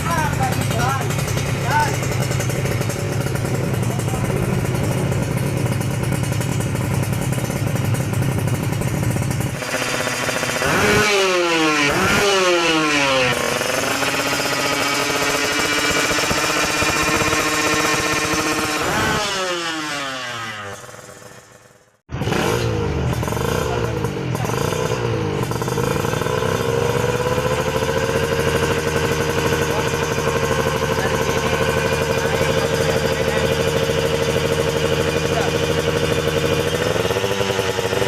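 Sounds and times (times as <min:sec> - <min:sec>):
motorcycle engine revving and idling: 0:00.0 - 0:38.0.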